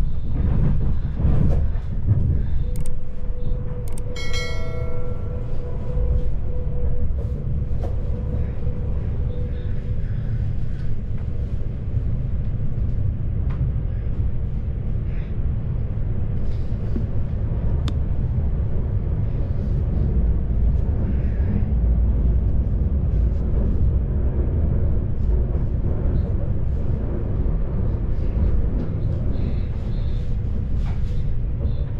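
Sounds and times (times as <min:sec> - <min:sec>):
electric train rumbling: 0:00.0 - 0:31.9.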